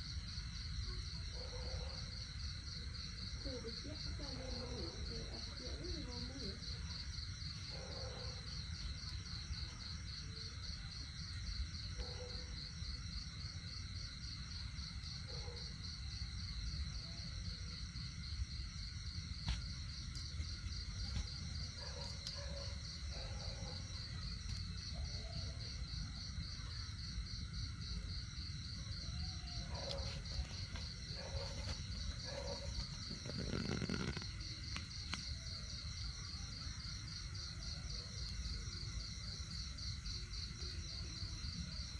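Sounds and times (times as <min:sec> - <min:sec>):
crickets trilling: 0:00.0 - 0:41.9.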